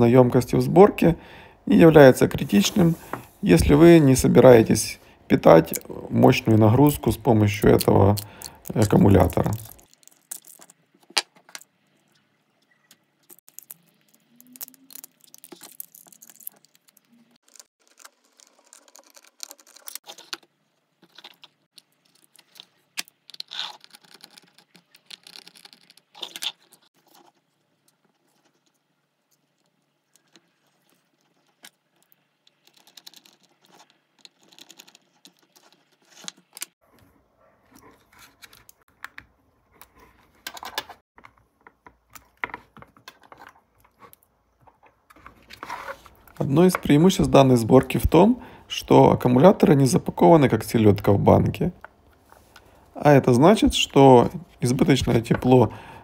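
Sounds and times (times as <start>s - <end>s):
hands handling cells and tools: 2.2s - 55.8s.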